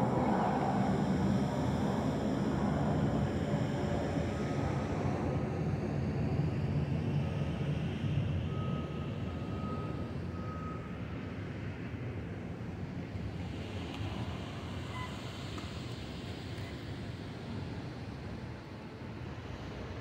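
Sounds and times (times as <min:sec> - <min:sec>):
jet engines rumbling overhead: 0:00.0 - 0:20.0.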